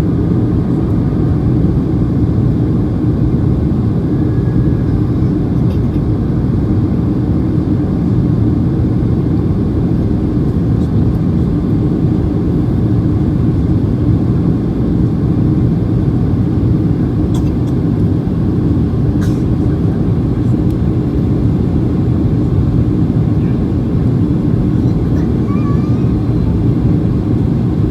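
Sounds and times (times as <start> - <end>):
airplane cabin roar: 0.0 - 27.9.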